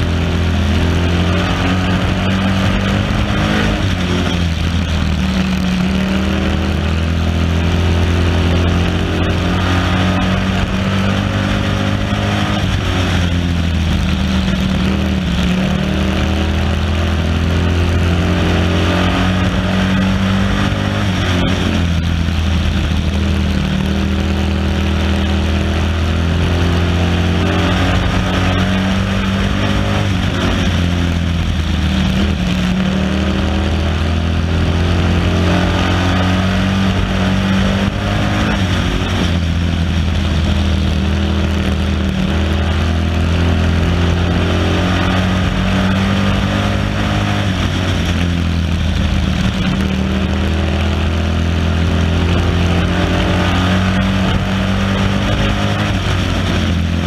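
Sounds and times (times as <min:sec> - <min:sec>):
race car engine running hard: 0:00.0 - 0:57.0
road and wind noise: 0:00.0 - 0:57.0.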